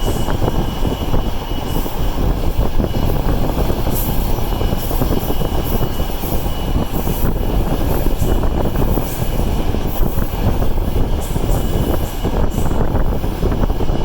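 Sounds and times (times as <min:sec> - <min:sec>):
train rumbling under way: 0:00.0 - 0:14.0.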